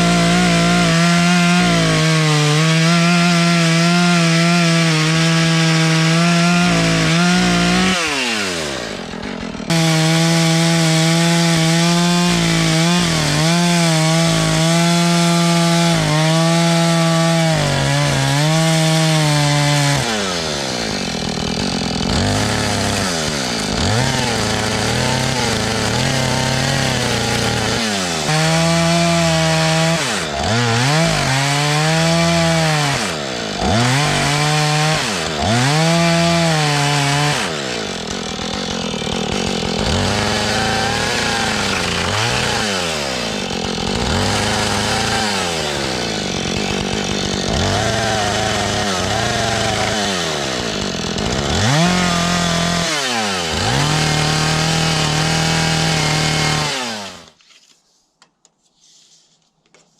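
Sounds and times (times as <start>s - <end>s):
chainsaw cutting wood: 0.0s - 57.4s.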